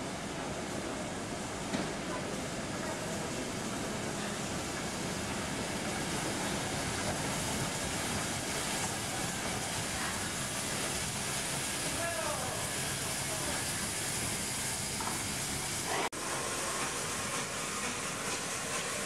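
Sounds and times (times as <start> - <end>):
steam train rumbling and hissing: 0.0 - 19.0.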